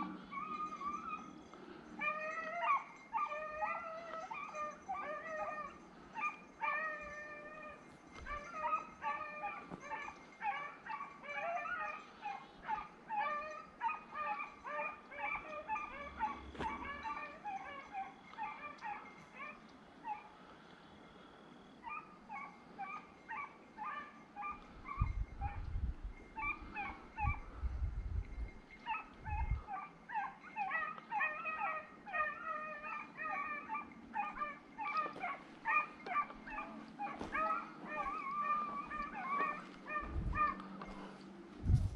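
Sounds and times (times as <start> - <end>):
hounds baying and yipping: 0.0 - 20.6, 21.2 - 41.9.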